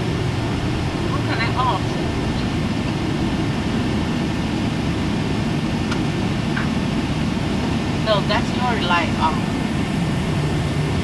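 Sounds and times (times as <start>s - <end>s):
airplane cabin rumble: 0.0s - 11.0s
jet engines idling: 0.0s - 11.0s.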